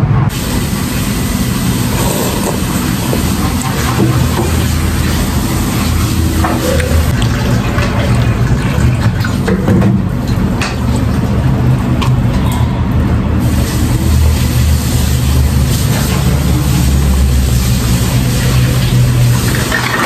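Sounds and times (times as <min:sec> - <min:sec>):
low mechanical hum with hiss: 0:00.0 - 0:20.0.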